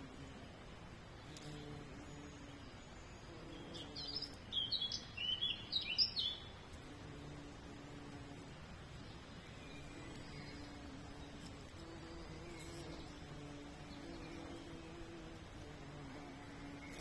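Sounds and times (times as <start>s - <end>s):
faint background noise: 0.0s - 17.0s
songbird chirping: 0.0s - 17.0s.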